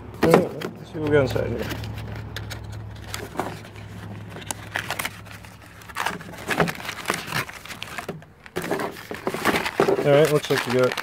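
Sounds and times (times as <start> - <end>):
foil bags rustling: 0.2 - 11.0.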